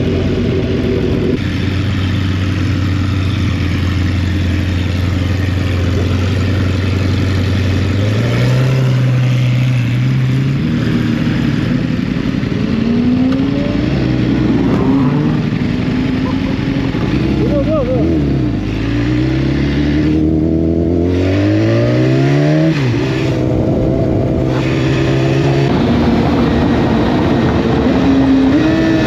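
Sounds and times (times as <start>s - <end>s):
motorcycle engines accelerating: 0.0s - 29.0s
wind and road noise: 0.0s - 29.0s.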